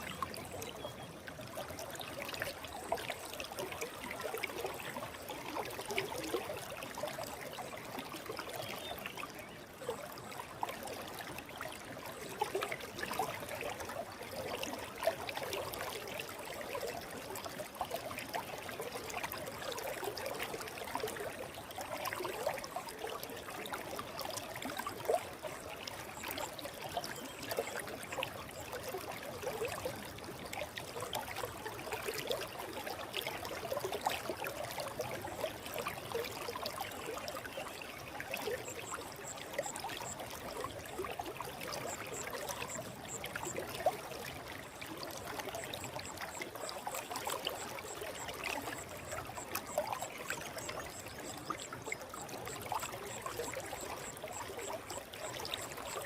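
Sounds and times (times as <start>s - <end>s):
stream water over rocks: 0.0s - 56.0s.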